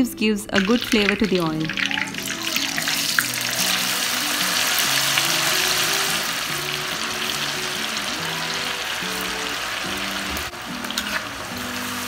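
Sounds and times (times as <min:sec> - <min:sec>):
background music melody: 0:00.0 - 0:12.0
chicken sizzling in hot oil: 0:00.6 - 0:12.0.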